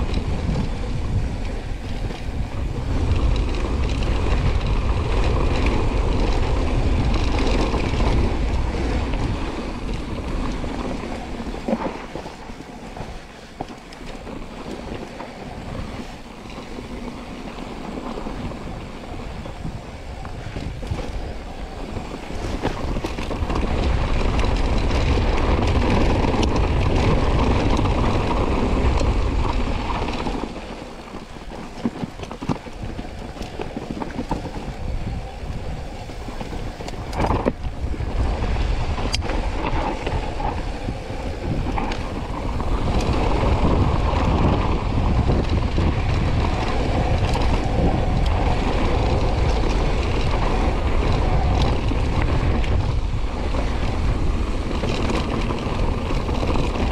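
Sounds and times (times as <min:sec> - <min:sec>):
bike rolling on rough trail: 0:00.0 - 0:56.9
wind buffeting microphone: 0:00.0 - 0:56.9.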